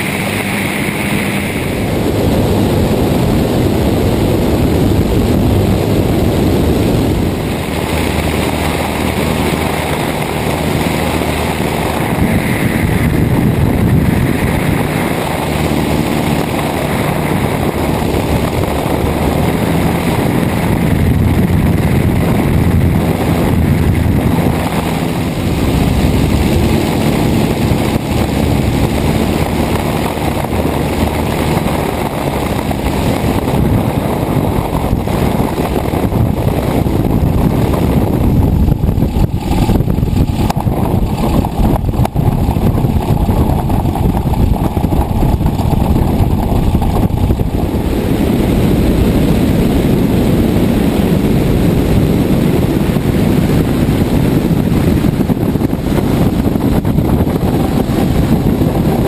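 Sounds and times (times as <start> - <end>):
light aircraft engine and propeller: 0.0 - 59.0
wind rushing past: 0.0 - 59.0.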